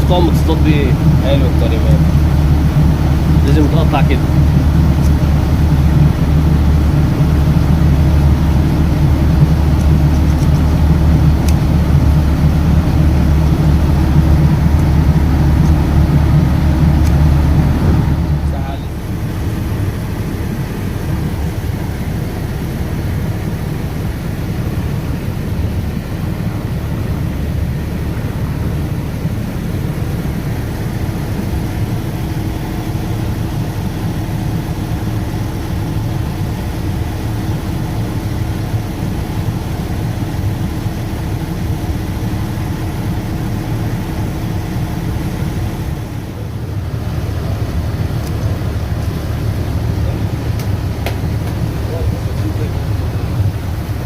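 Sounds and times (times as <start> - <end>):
engine rumble: 0.0 - 54.0
faint steady hum: 0.0 - 54.0.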